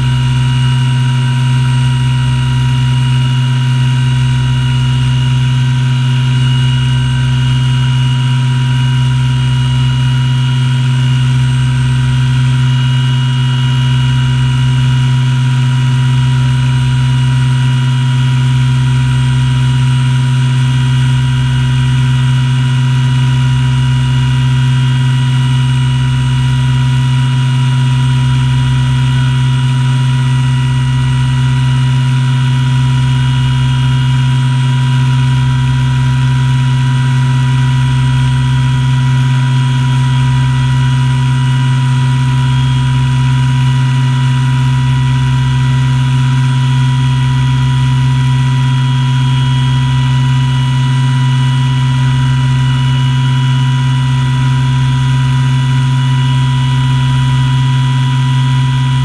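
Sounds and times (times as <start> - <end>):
helicopter running with rotor turning: 0.0 - 59.0
high turbine whine: 0.0 - 59.0.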